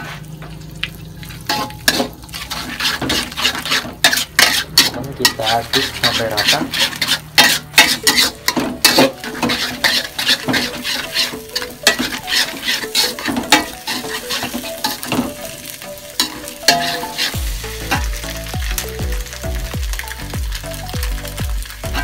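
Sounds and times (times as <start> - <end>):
egg sizzling: 0.0 - 22.0
metal spatula scraping wok: 1.2 - 20.8.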